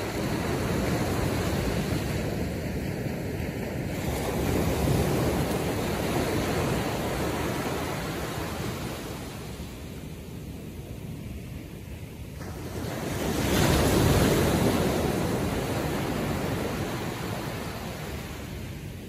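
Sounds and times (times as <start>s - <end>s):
waves breaking on beach: 0.0s - 19.0s
wind rumbling on microphone: 0.0s - 19.0s.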